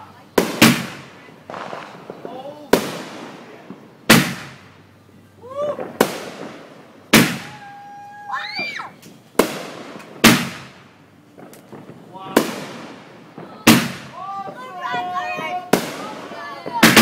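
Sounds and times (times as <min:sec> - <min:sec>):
fireworks bangs with echo: 0:00.0 - 0:05.1, 0:05.7 - 0:07.8, 0:09.4 - 0:17.0
fireworks whistles: 0:00.0 - 0:17.0.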